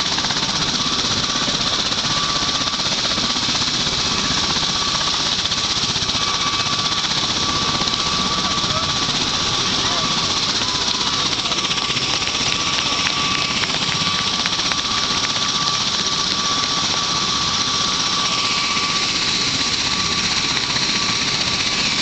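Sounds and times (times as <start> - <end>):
rushing rotor noise: 0.0 - 22.0
turbine engine whine: 0.0 - 22.0.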